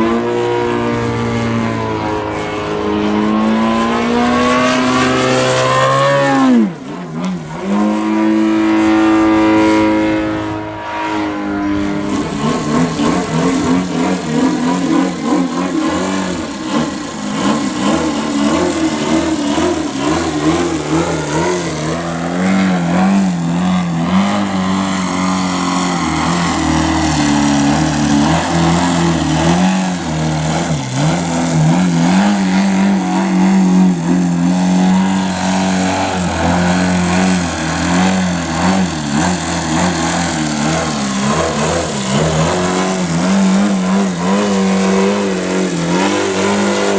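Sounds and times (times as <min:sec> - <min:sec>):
model aircraft engine running: 0:00.0 - 0:46.9.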